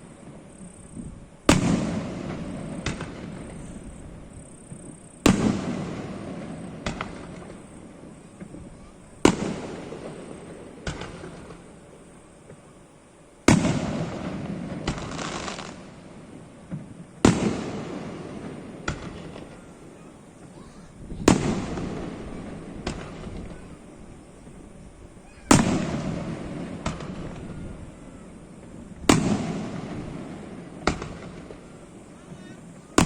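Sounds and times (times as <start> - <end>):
small fireworks crack: 0.0 - 33.0
fireworks bangs with rumble: 0.2 - 12.8, 13.4 - 33.0.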